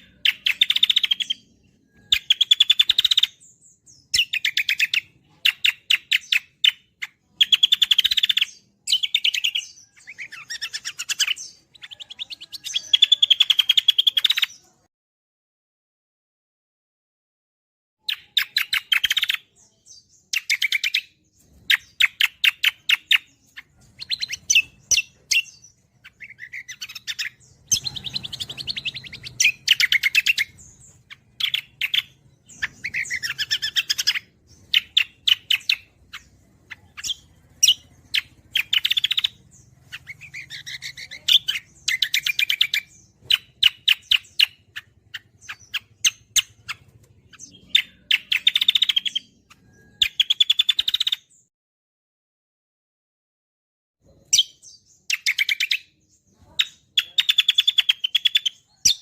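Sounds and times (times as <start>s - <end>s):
songbird chattering trills: 0.0s - 14.7s, 18.0s - 51.3s, 54.1s - 59.0s.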